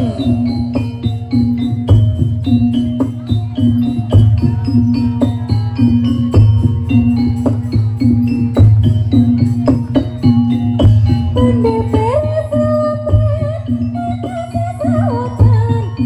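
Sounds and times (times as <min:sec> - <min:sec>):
steady drum beat: 0:00.0 - 0:13.9.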